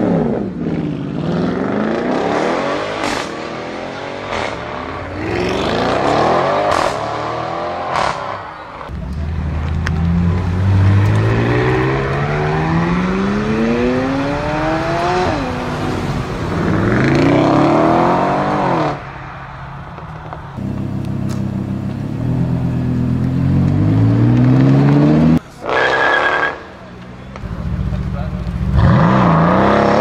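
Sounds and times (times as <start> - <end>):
car engines accelerating hard: 0.0 - 30.0.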